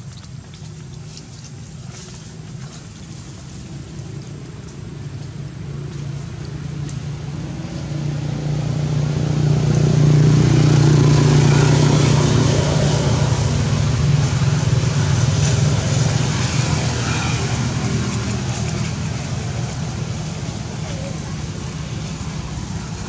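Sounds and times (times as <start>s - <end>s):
vehicle engine passing by: 1.8s - 23.0s.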